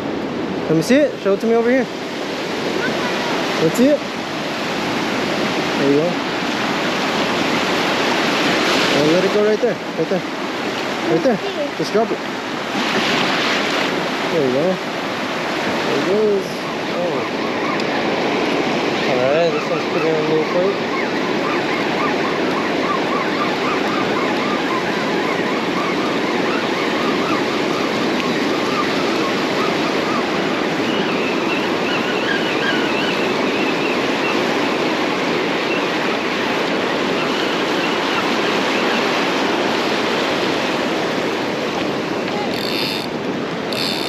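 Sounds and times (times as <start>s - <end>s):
ocean surf on sandy beach: 0.0s - 44.0s.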